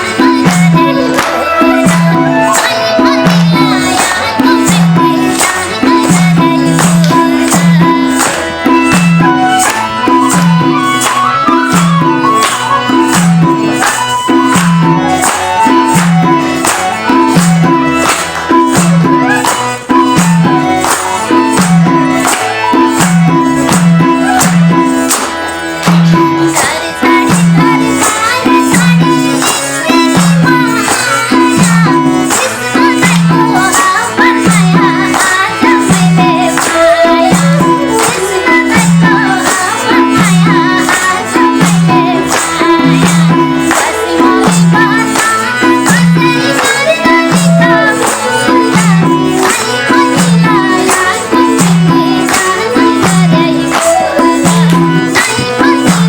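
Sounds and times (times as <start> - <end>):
folk melody: 0.0 - 56.0
hand drum rhythm: 0.0 - 56.0
jingling percussion: 0.0 - 56.0.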